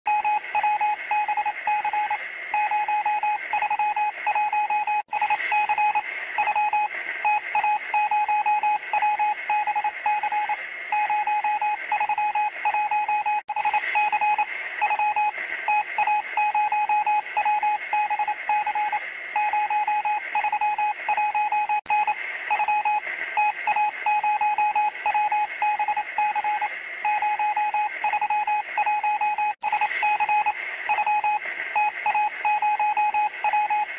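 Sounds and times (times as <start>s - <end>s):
electronic beeping like morse code: 0.1s - 33.9s.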